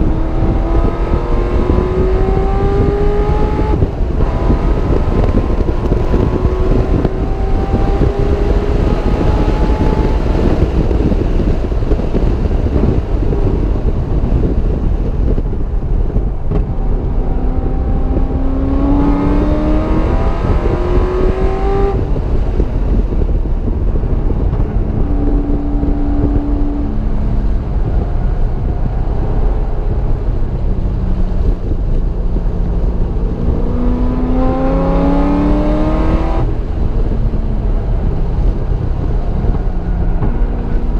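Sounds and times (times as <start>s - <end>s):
car engine accelerating: 0.0s - 40.9s
wind and road noise rumble: 0.0s - 40.9s.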